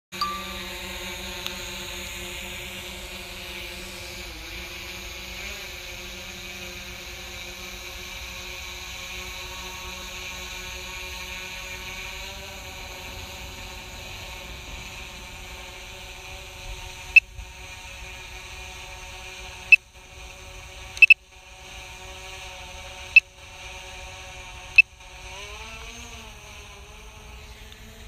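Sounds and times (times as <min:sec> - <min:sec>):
drone motors whining: 0:00.2 - 0:28.0.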